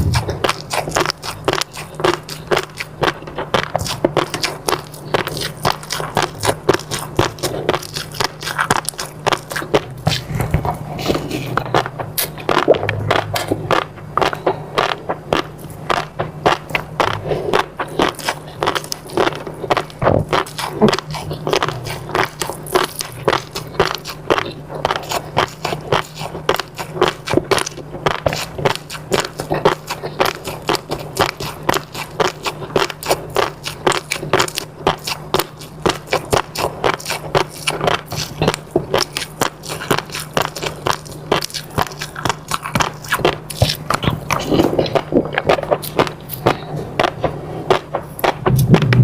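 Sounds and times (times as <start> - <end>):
person biting and chewing food: 0.0 - 49.0.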